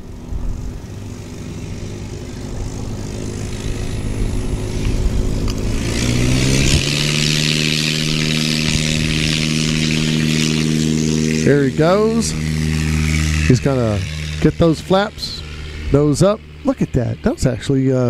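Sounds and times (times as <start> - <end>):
light aircraft engine revving: 0.0 - 18.0
propeller hiss: 0.0 - 18.0.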